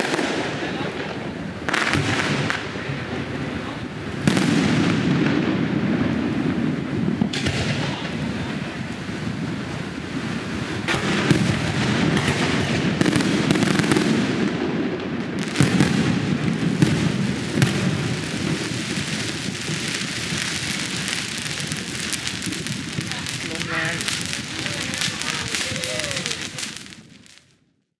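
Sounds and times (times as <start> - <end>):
fireworks booming: 0.0 - 27.5
fireworks crackling: 0.0 - 27.7.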